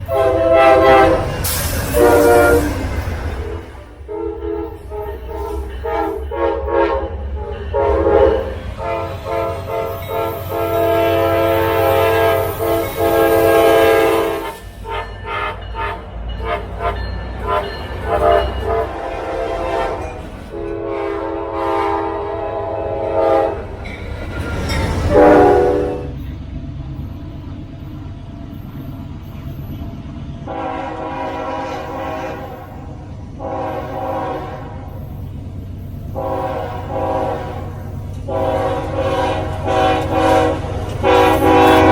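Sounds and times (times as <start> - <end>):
locomotive air horn blasts: 0.0 - 23.8, 25.0 - 26.2, 30.5 - 35.0, 36.1 - 41.9.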